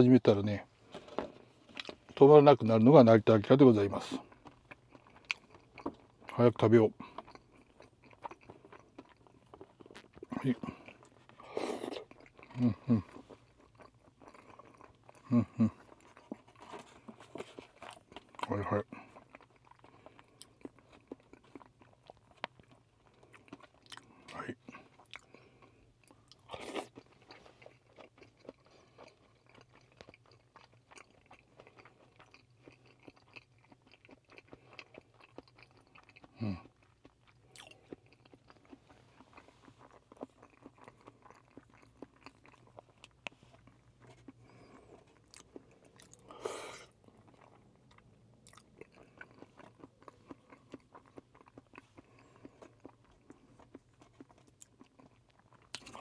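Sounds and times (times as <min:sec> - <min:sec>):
person chewing: 0:00.9 - 0:02.2, 0:04.0 - 0:56.0.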